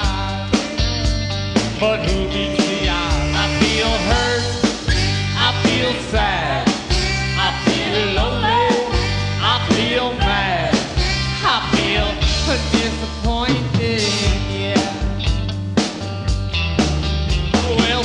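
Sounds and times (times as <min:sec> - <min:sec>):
bass and drums: 0:00.0 - 0:18.0
electric guitar: 0:00.0 - 0:18.0.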